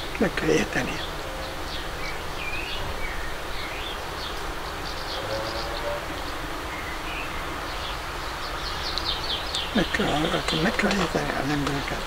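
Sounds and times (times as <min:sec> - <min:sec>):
background hiss: 0:00.0 - 0:12.0
small birds chirping: 0:00.0 - 0:12.0.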